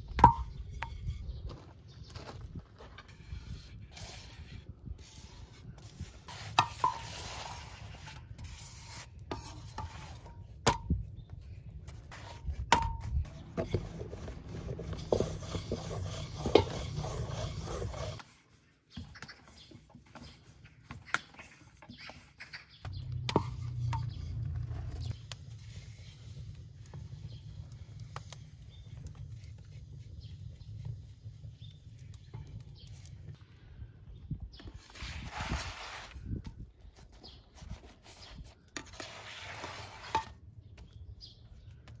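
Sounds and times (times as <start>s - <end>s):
wooden spatula scraping griddle: 0.3s - 10.6s, 11.4s - 33.2s, 34.7s - 40.4s.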